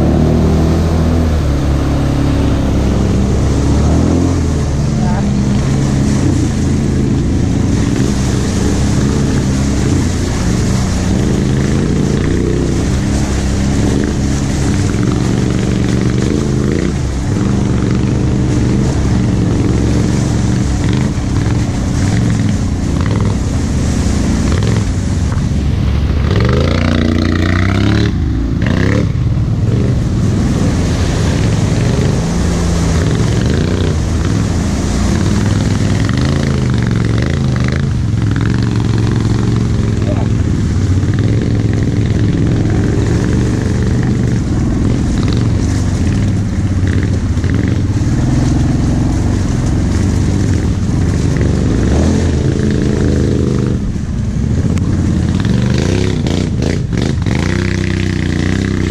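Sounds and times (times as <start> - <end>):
quad bike engine revving: 0.0 - 58.9.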